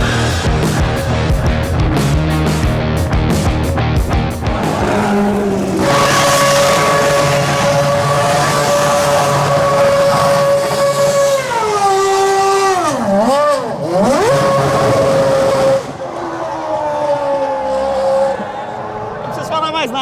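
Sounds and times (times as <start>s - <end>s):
racing car engine revving: 0.0s - 19.3s.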